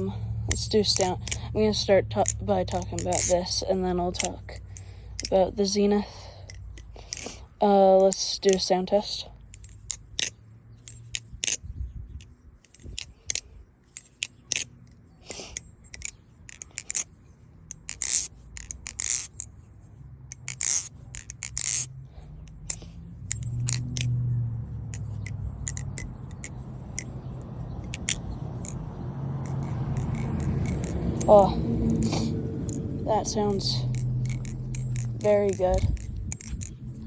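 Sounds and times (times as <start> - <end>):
knife handles clacking: 0.0 - 19.6, 20.3 - 37.0.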